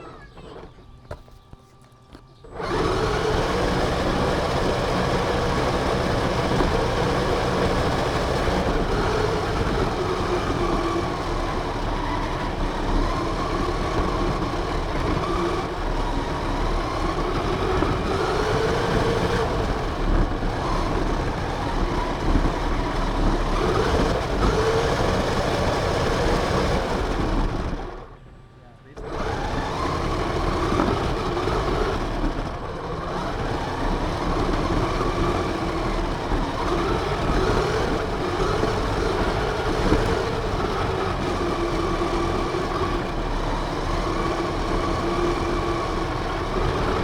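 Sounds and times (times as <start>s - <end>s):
tyre and wind noise: 0.0s - 28.0s, 29.0s - 47.0s
rc car motor whine: 0.0s - 28.2s, 28.9s - 47.0s.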